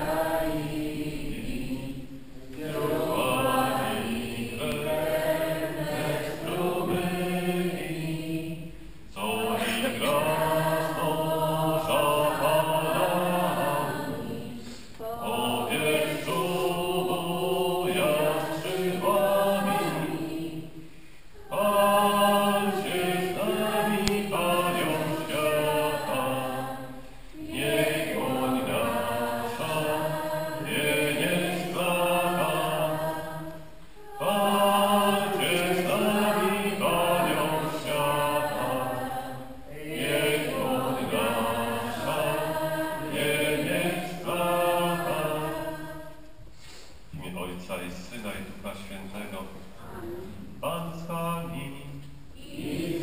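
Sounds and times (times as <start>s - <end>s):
congregation singing a hymn: 0.0s - 53.0s.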